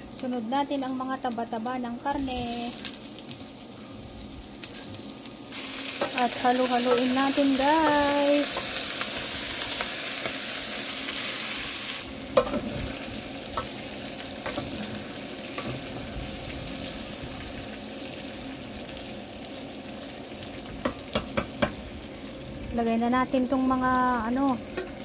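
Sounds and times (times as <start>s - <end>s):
meat sizzling in a wok: 0.0s - 25.0s.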